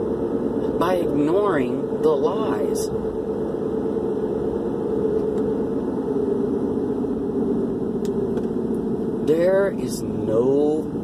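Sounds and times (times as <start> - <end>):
motor droning hum: 0.0 - 11.0.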